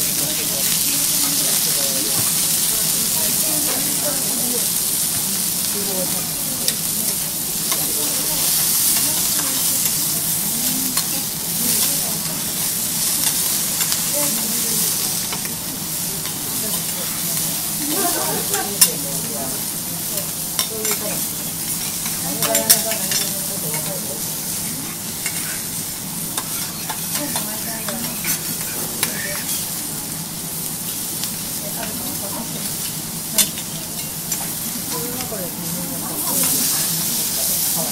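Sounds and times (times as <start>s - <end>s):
steaks sizzling on griddle: 0.0s - 37.9s.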